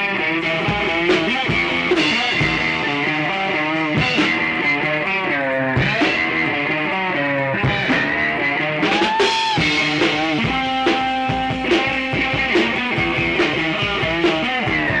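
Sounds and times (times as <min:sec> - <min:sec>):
rock song with guitar: 0:00.0 - 0:15.0.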